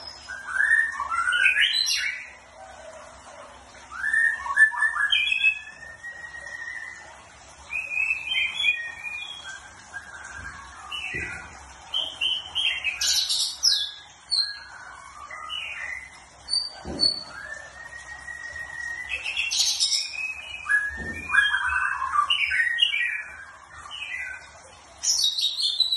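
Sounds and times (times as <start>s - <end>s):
songbird chirping and whistling: 0.0s - 2.4s, 3.9s - 24.5s, 25.1s - 25.9s.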